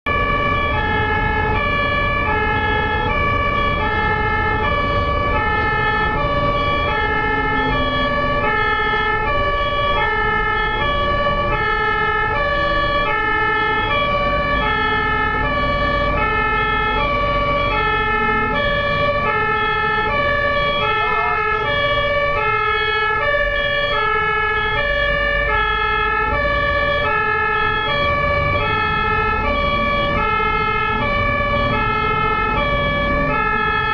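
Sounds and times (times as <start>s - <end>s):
fire engine two-tone siren: 0.0s - 33.9s
low vehicle rumble: 0.1s - 33.9s.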